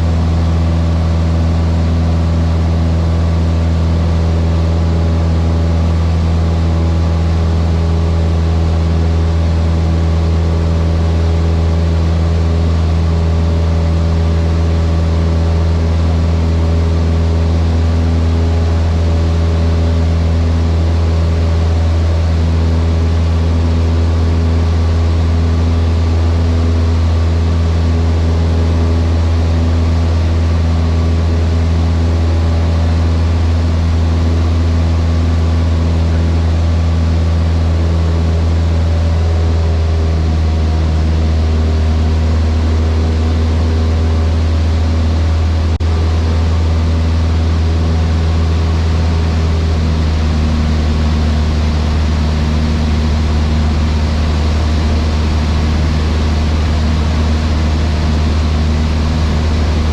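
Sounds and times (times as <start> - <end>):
airplane engine and propeller droning: 0.0 - 59.9.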